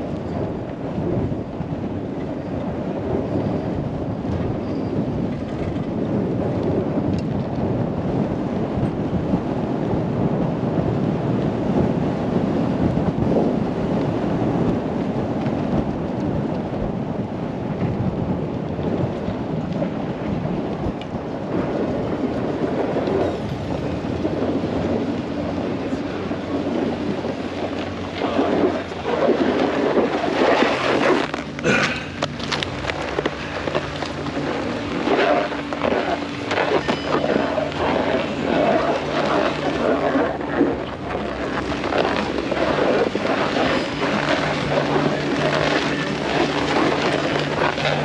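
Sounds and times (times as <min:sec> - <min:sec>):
wind buffeting microphone: 0:00.0 - 0:48.0
snowboard sliding over snow: 0:02.6 - 0:48.0.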